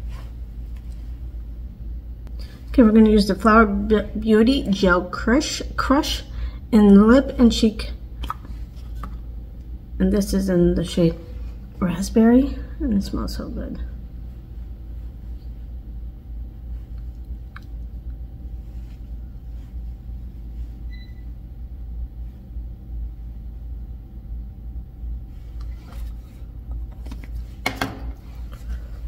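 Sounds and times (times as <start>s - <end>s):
low room hum: 0.0s - 29.0s.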